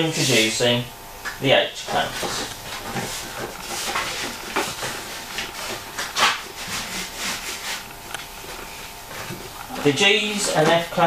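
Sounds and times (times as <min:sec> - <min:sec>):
wood strip rubbing and scraping: 0:01.8 - 0:11.0.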